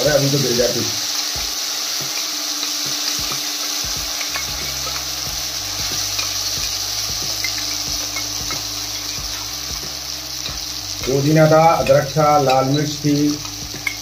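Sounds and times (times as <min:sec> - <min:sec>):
oil sizzling with pops: 0:00.0 - 0:14.0.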